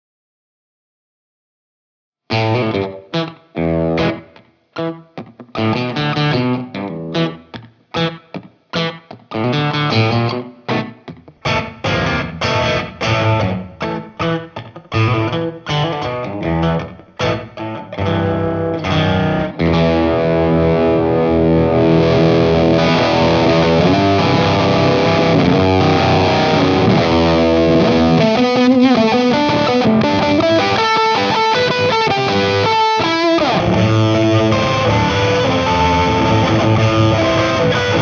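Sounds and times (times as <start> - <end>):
fuzz electric guitar: 2.3 - 38.0.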